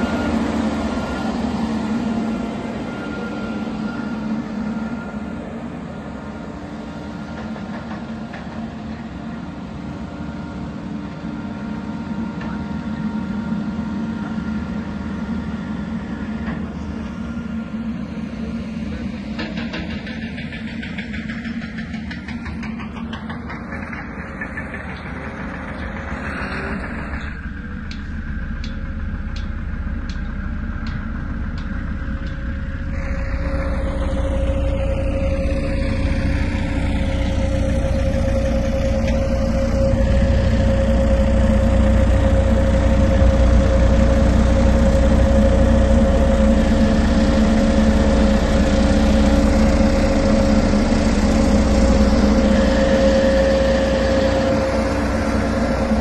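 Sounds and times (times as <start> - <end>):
diesel compactor engine humming: 0.0 - 56.0.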